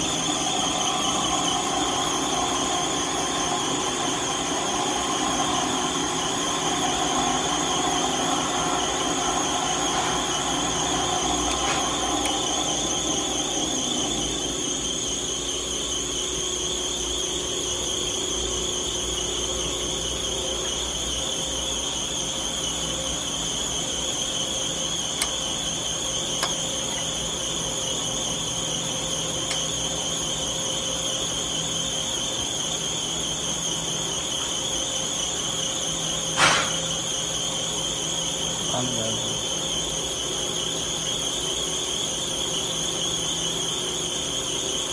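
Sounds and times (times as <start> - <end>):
lathe high whine: 0.0 - 44.9.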